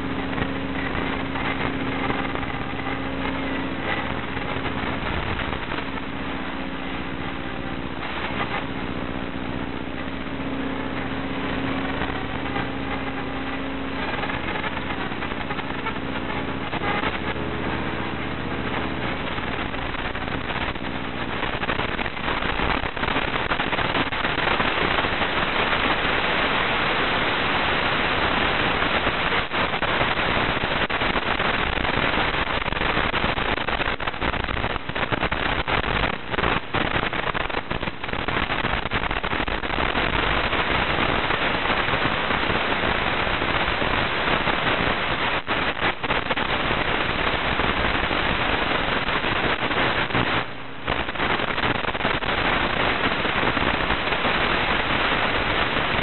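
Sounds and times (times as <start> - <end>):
low steady hum: 0.0 - 56.0
static hiss: 0.0 - 56.0.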